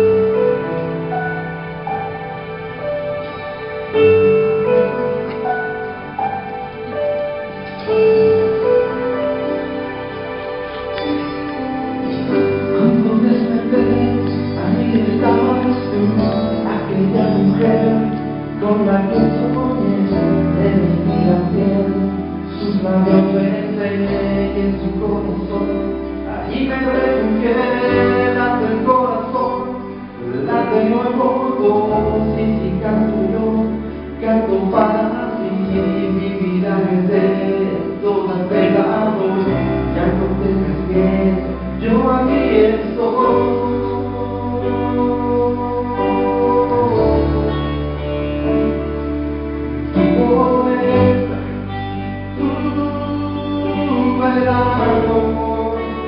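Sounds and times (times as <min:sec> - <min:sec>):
held bass notes: 0:00.0 - 0:56.0
live band playing: 0:00.0 - 0:56.0
person singing: 0:00.0 - 0:56.0.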